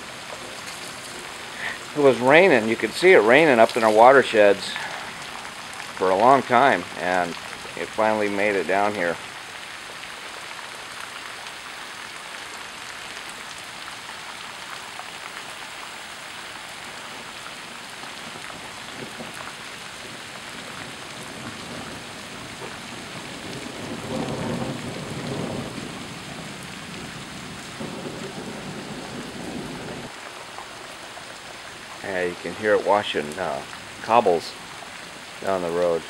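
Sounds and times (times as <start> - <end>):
flood water running: 0.0 - 36.0
steady rain: 0.0 - 36.0.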